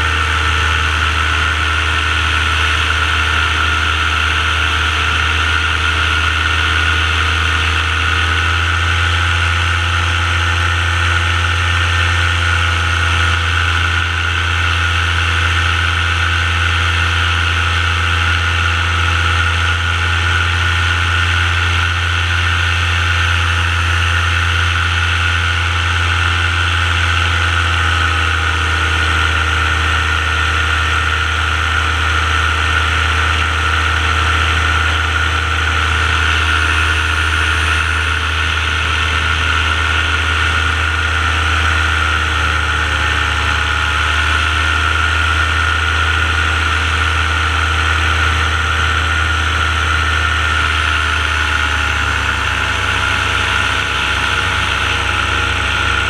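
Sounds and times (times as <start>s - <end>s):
paramotor engine and propeller drone: 0.0s - 56.0s.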